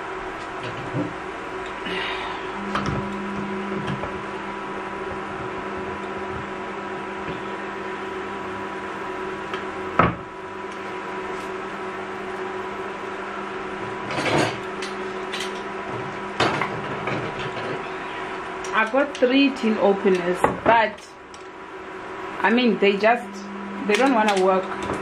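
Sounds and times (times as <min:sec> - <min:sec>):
kitchen appliance hum: 0:00.0 - 0:25.0.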